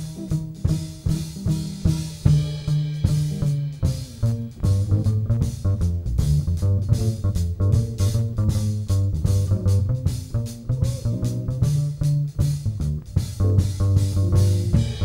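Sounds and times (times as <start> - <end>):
bass line: 0.0 - 15.0
drum kit strikes: 0.0 - 15.0
guitar playing swing: 0.0 - 15.0.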